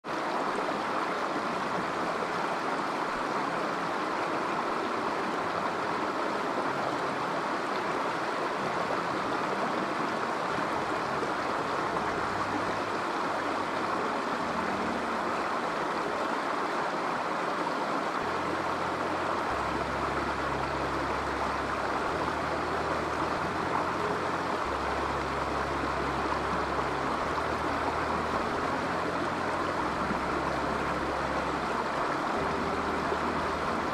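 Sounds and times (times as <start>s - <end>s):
river running over rocks: 0.0s - 33.9s.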